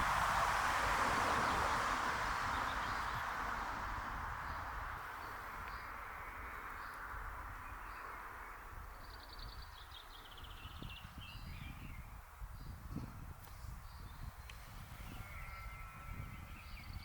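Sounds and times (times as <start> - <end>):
low wind rumble: 0.0 - 17.0
birds calling: 1.4 - 12.7, 13.8 - 17.0.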